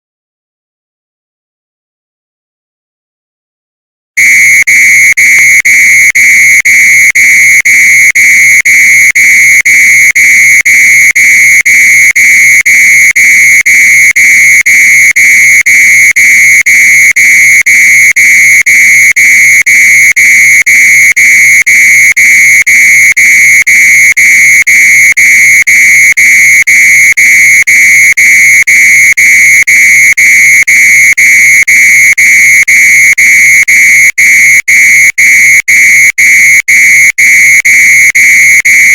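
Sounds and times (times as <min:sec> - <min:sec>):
fire alarm tone: 0:04.2 - 0:38.9.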